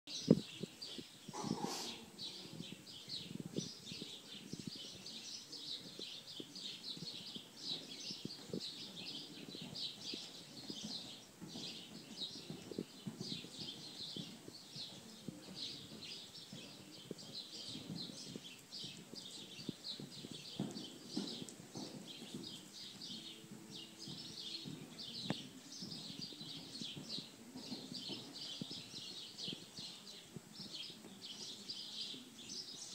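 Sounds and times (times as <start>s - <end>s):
small birds chirping: 0.1s - 32.9s
horse hooves cantering on sand: 0.4s - 32.8s.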